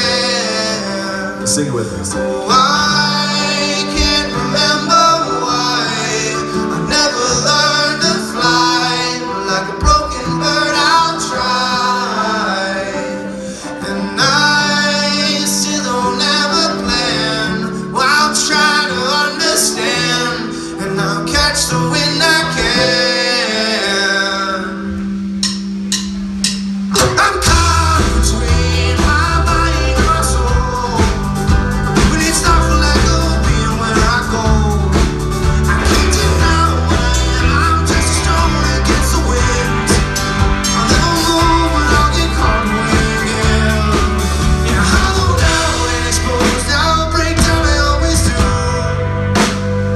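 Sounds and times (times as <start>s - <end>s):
man singing: 0.0s - 25.0s, 26.9s - 49.9s
live rock band playing: 0.0s - 49.9s.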